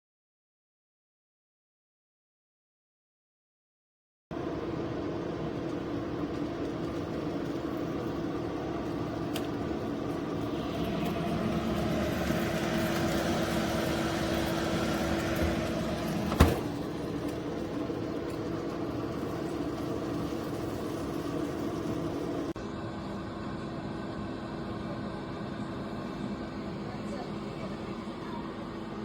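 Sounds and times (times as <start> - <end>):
air fryer fan hum: 4.3 - 29.0.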